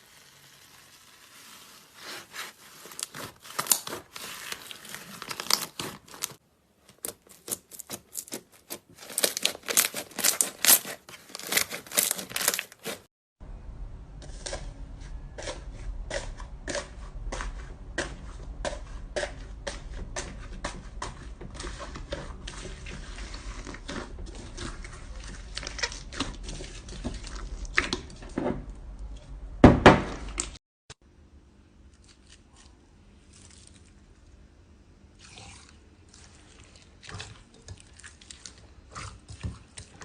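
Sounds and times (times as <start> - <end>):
slime squelch: 0.0 - 13.1, 14.2 - 28.2, 31.8 - 34.5, 35.1 - 40.0.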